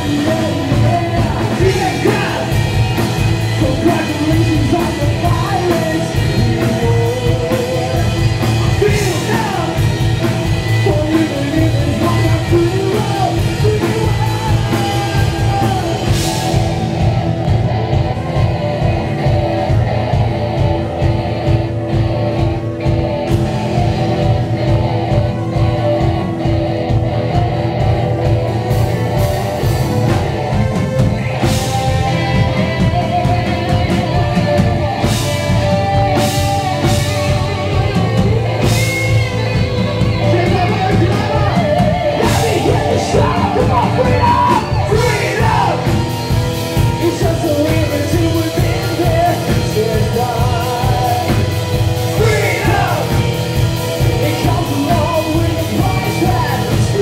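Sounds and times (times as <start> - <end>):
rock band playing live: 0.0 - 57.0
vocals: 0.0 - 57.0.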